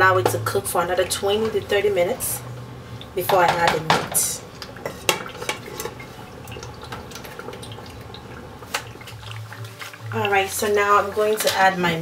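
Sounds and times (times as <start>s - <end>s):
stew simmering and bubbling: 0.0s - 12.0s.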